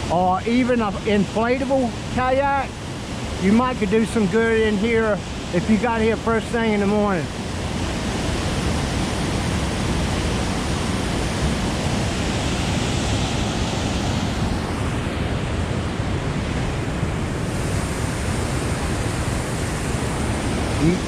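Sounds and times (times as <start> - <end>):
water rushing over rocks: 0.0 - 21.0
wind on microphone: 1.0 - 21.0.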